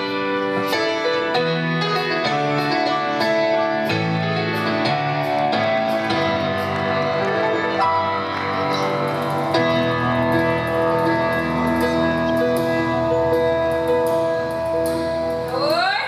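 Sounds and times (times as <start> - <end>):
percussion strokes: 0.0 - 16.0
piano chords: 0.0 - 16.0.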